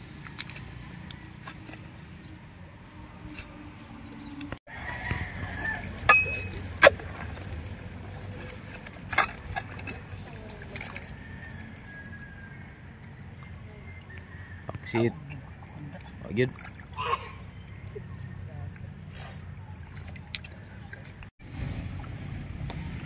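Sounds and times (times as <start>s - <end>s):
wet mud squelching: 0.0s - 3.6s, 4.3s - 11.8s, 13.4s - 23.0s.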